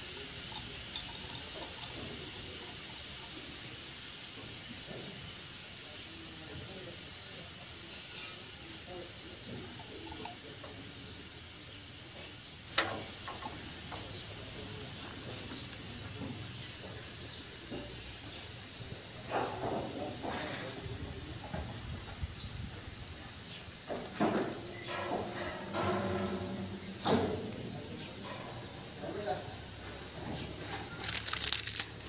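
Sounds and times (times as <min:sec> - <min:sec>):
compressed air hissing: 0:00.0 - 0:32.0.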